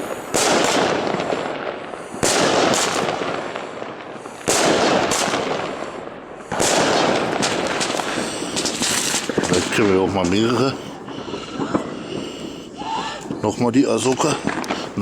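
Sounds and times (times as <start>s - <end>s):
firework bangs with crackle: 0.0s - 15.0s.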